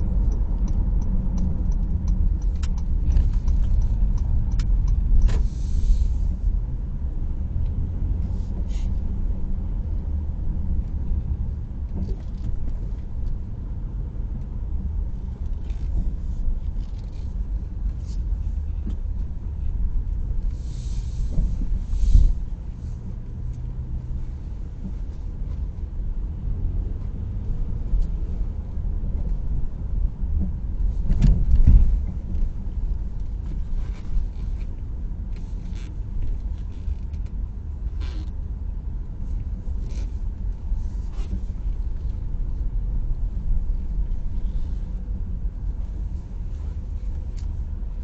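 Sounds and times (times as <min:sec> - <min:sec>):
car driving rumble: 0:00.0 - 0:48.0.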